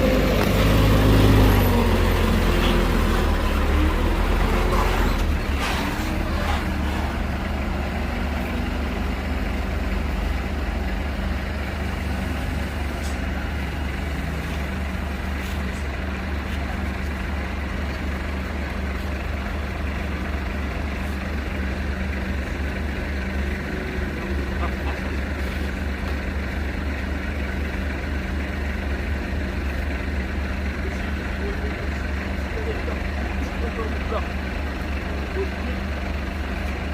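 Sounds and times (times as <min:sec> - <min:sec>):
diesel engine rumbling: 0:00.0 - 0:36.9.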